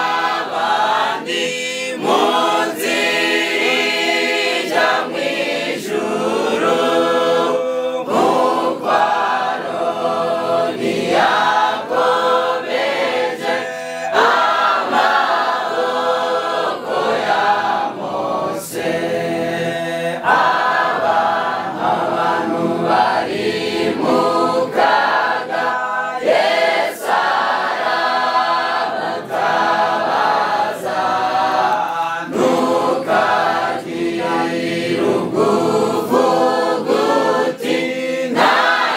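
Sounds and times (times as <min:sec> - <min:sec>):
choir singing gospel: 0:00.0 - 0:38.9.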